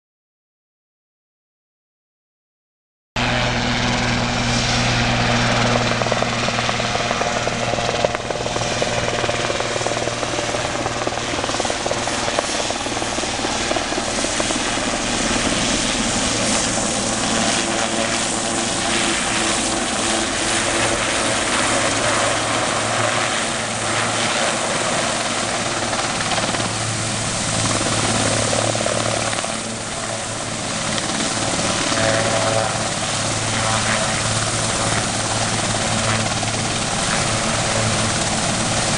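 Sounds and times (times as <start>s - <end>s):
helicopter hovering: 3.2s - 38.9s.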